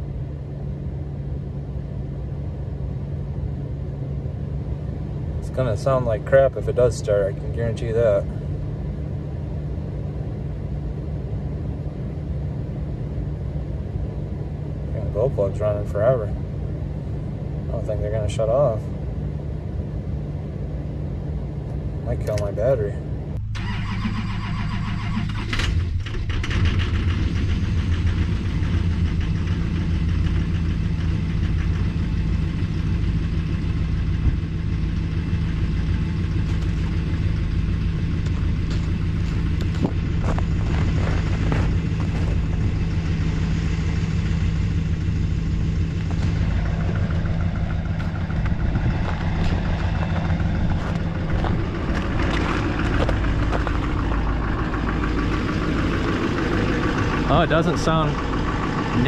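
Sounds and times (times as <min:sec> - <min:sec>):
diesel engine cranking and idling: 0:00.0 - 0:59.0.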